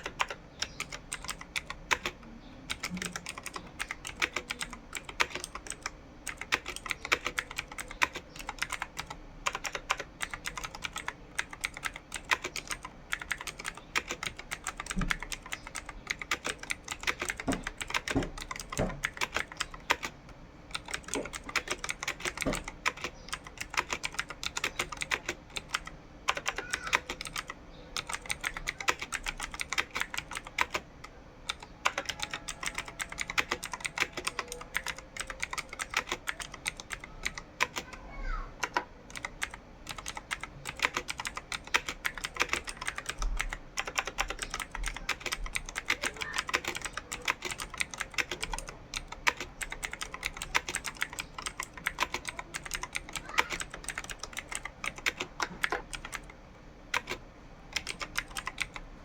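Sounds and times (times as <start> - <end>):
typing on computer keyboard: 0.0 - 38.0, 38.6 - 58.8.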